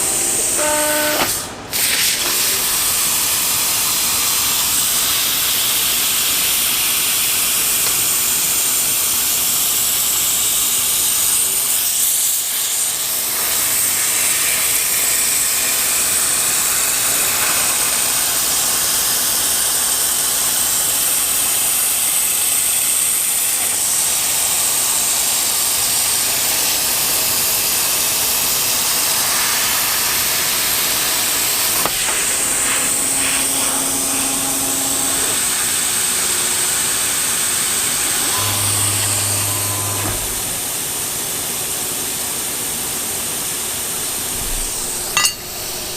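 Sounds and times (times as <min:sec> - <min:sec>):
plasma cutter hissing: 0:00.0 - 0:40.5.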